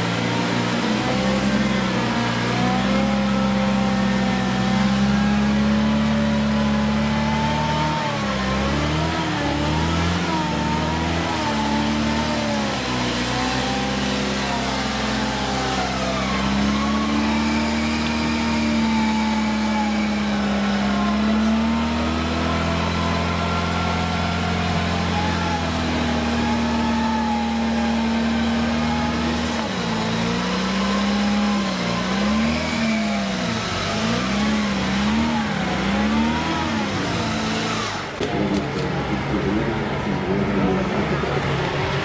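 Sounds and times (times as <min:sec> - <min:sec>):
off-road vehicle engine revving: 0:00.0 - 0:42.0.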